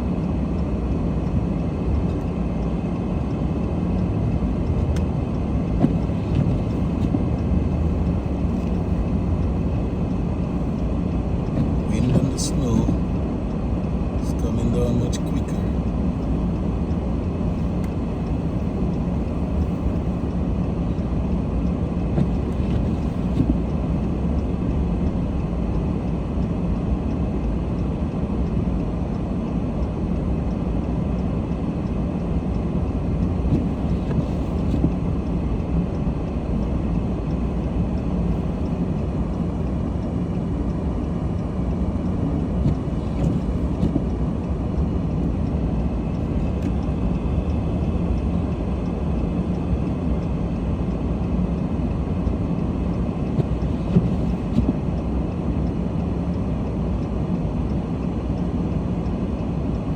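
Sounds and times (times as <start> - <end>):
low vehicle rumble: 0.0 - 59.9.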